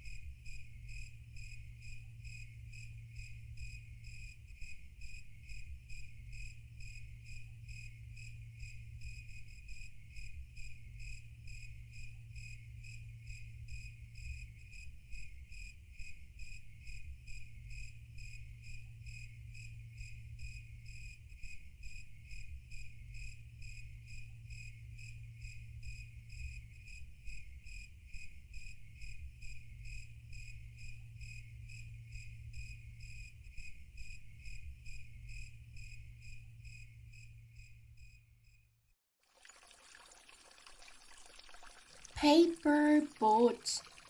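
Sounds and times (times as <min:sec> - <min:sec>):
cricket chirping: 0:00.0 - 0:38.6.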